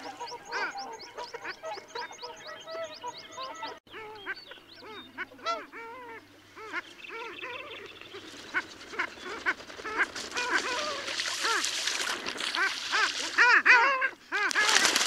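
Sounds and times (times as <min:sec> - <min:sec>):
ducks yodelling calls: 0:00.0 - 0:15.0.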